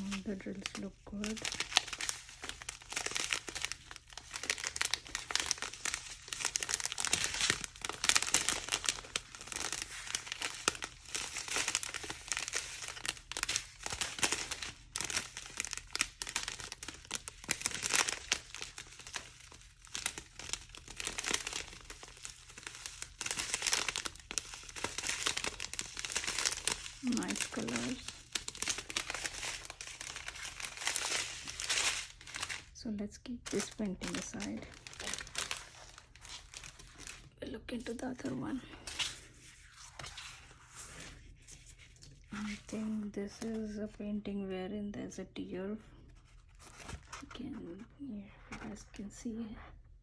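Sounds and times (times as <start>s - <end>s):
plastic bags crinkling: 0.0s - 43.7s.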